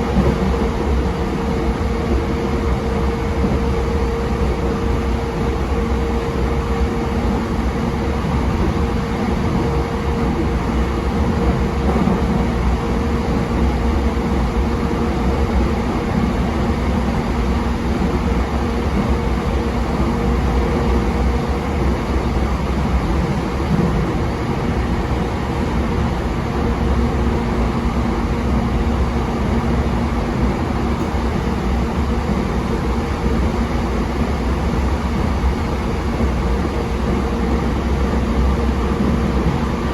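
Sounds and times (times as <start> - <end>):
electric train hum: 0.0 - 39.9
wheels rumbling on rail: 0.0 - 39.9.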